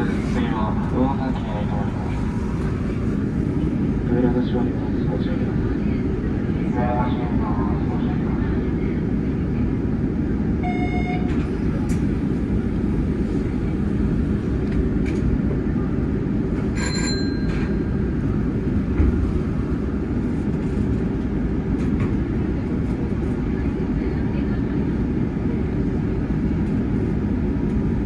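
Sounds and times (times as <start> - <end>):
low train hum: 0.0 - 28.0.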